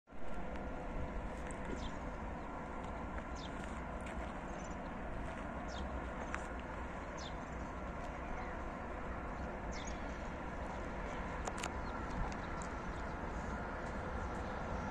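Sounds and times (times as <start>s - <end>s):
low outdoor rumble: 0.1s - 14.9s
songbirds chirping: 1.2s - 14.9s.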